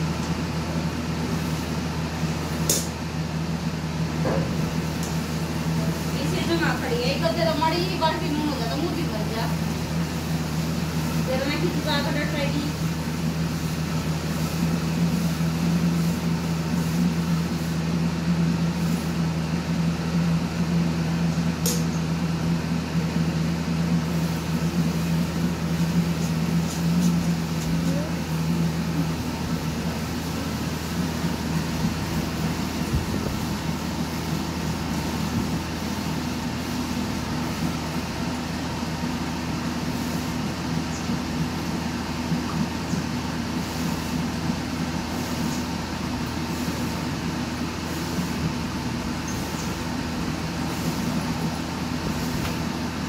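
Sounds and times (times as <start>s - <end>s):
mechanical hum: 0.0s - 53.0s.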